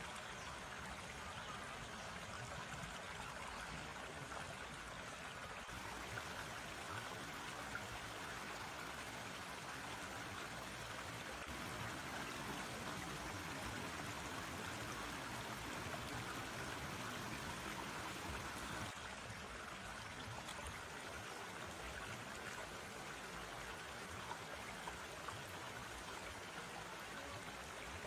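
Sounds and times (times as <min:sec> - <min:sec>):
stream water rushing and trickling: 0:00.0 - 0:28.0.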